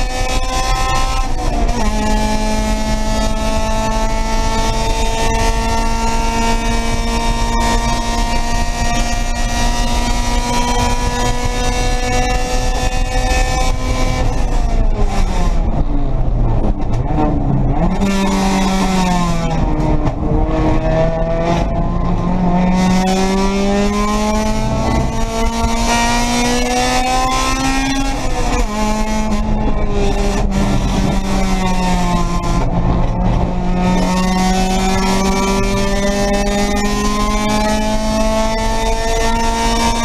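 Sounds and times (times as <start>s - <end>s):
race car engine revving: 0.0s - 40.0s
wind and road noise: 0.0s - 40.0s.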